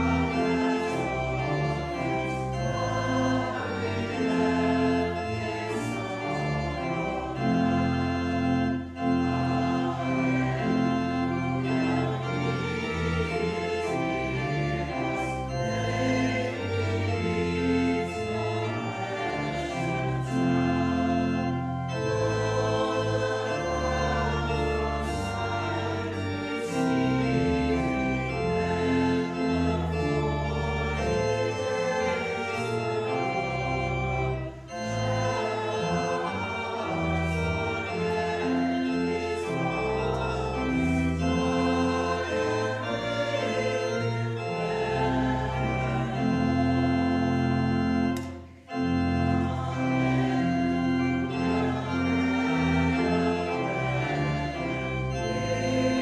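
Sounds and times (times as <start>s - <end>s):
church organ playing a hymn: 0.0s - 56.0s.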